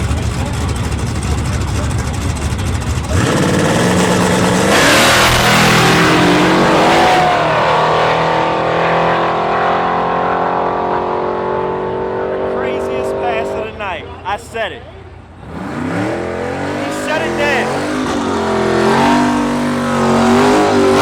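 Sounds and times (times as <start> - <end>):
race cars accelerating: 0.0 - 21.0.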